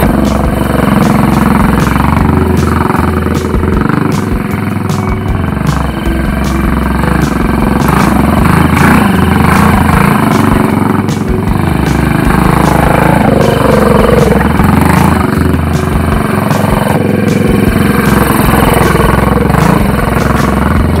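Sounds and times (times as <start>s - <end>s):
mini bike engine revving: 0.0s - 21.0s.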